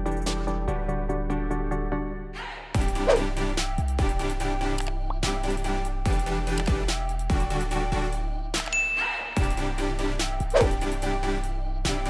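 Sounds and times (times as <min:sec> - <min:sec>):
electronic music with steady beat: 0:00.0 - 0:00.8, 0:02.8 - 0:12.0.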